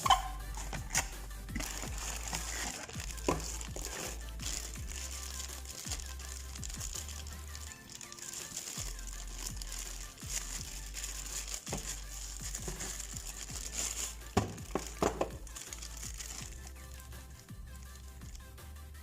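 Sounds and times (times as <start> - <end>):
packaging crinkling: 0.0 - 18.4
background music with bass line: 0.0 - 19.0.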